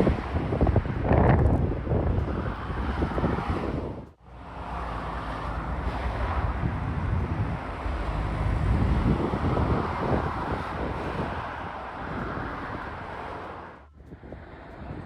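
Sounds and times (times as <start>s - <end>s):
motorway traffic passing: 0.0s - 15.0s
wind buffeting microphone: 0.0s - 15.0s.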